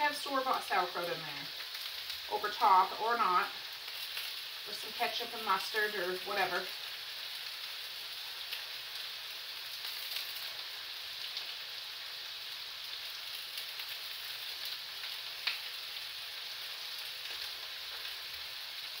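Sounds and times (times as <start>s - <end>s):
food sizzling in frying pans: 0.0s - 19.0s.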